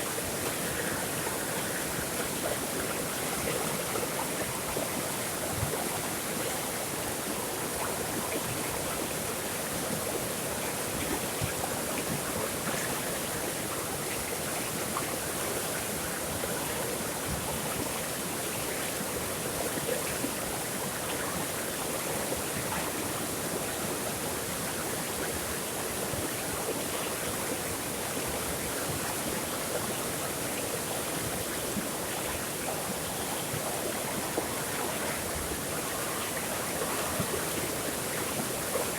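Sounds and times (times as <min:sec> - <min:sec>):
stream running with gurgles: 0:00.0 - 0:38.9.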